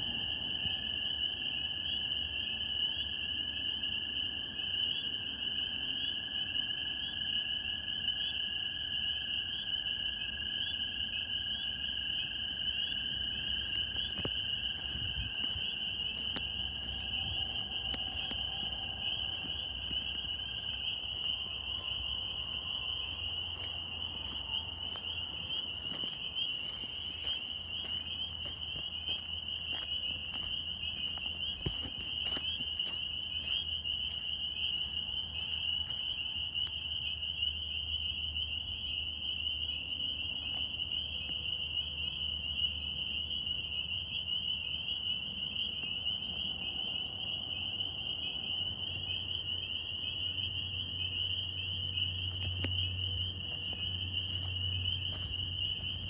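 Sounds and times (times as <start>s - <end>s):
chorus of frogs peeping: 0.0s - 56.0s.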